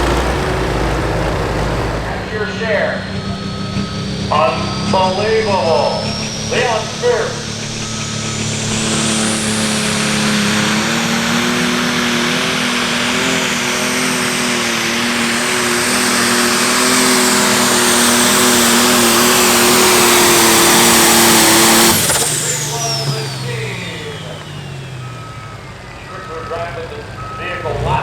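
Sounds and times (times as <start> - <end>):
diesel tractor engine at full power: 0.0 - 28.0
high turbo whine: 0.0 - 28.0.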